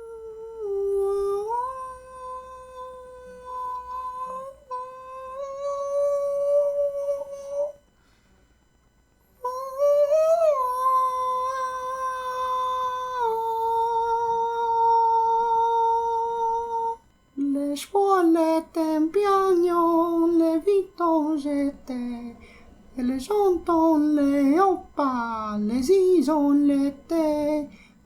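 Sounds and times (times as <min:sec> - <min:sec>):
person singing wordlessly: 0:00.0 - 0:07.8, 0:09.4 - 0:27.8.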